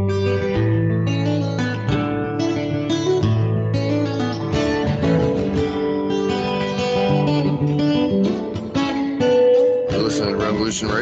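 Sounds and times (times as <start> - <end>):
strummed guitar music: 0.0 - 11.0.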